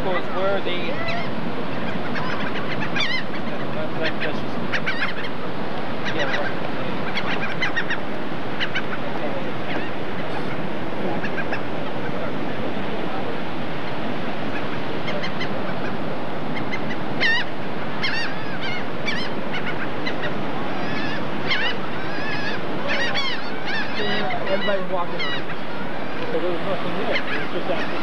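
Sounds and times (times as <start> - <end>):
seagulls calling: 0.0 - 28.0
surf rushing: 0.0 - 28.0
wind: 0.0 - 28.0.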